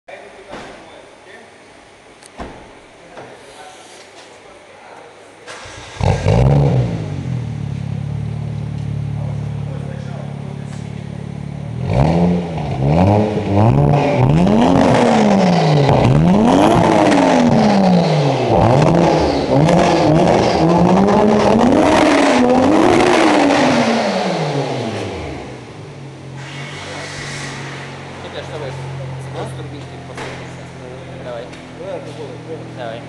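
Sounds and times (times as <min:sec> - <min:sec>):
car engine idling: 0:05.5 - 0:27.1, 0:27.8 - 0:33.0
car engine revving: 0:05.5 - 0:33.0.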